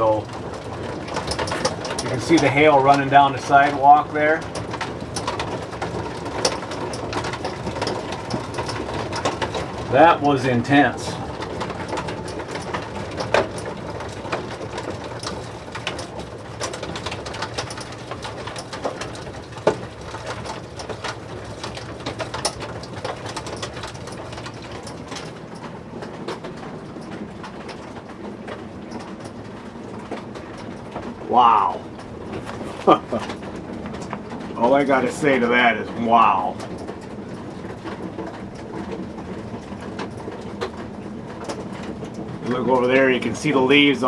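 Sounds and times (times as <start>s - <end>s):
hail and rain falling: 0.0s - 44.0s.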